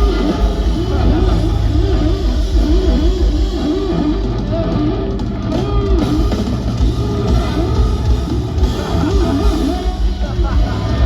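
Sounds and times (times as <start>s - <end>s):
electric guitar: 0.0s - 11.0s
live rock band playing: 0.0s - 11.0s.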